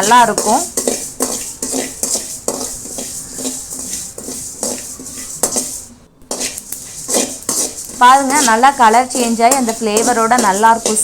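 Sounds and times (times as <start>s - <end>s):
seeds crackling: 0.0s - 11.0s
spoon scraping metal pan: 0.0s - 11.0s.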